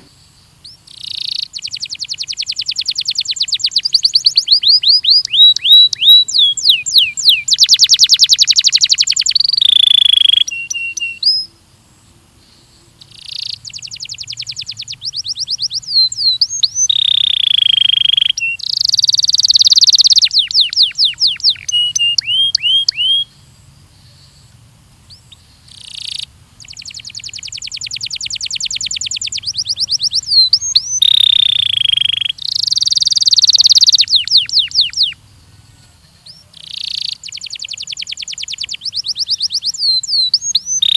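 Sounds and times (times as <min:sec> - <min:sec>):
canary singing trills and whistles: 0:00.0 - 0:11.5, 0:13.0 - 0:23.4, 0:24.1 - 0:35.2, 0:36.0 - 0:40.9.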